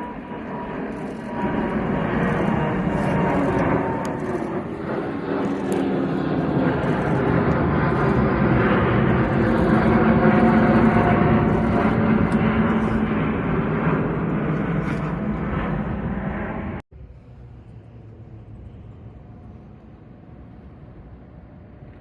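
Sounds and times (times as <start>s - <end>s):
airliner engines roaring: 0.0s - 22.0s.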